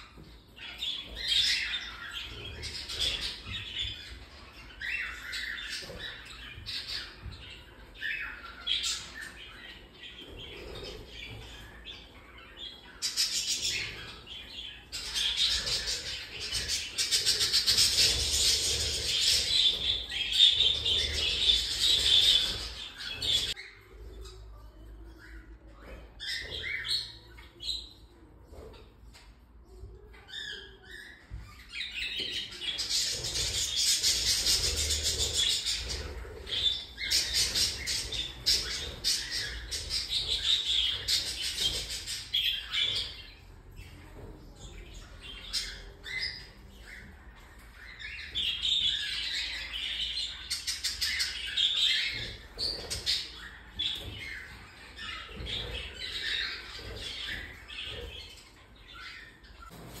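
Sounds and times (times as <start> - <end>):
bird chicks chirping: 0.0 - 60.0.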